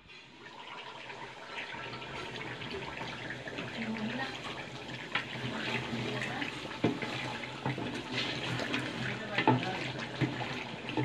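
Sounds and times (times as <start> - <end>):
curry bubbling in a metal pot: 0.0 - 11.0
wooden spatula stirring: 1.8 - 11.0.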